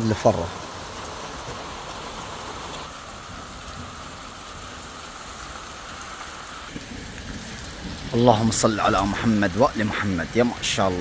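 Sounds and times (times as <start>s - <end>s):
rain on ground and foliage: 0.0s - 11.0s.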